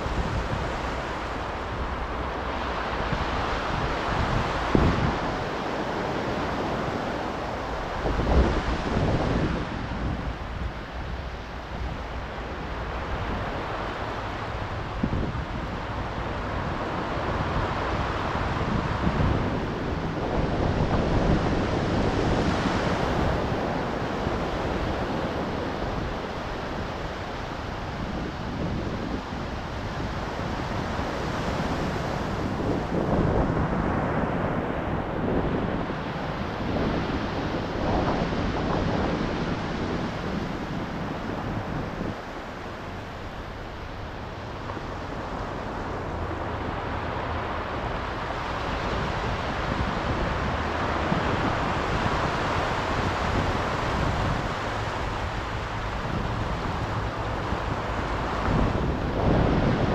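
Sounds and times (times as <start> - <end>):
ocean waves breaking: 0.0 - 59.9
wind rumbling on microphone: 0.0 - 59.9.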